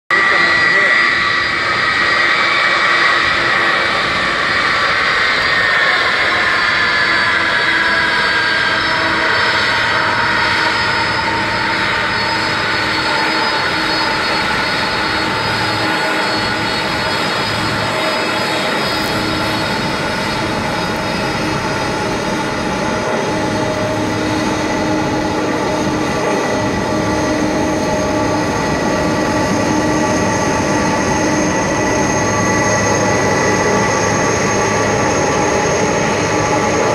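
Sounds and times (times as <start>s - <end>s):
jet engines whining: 0.1s - 36.9s.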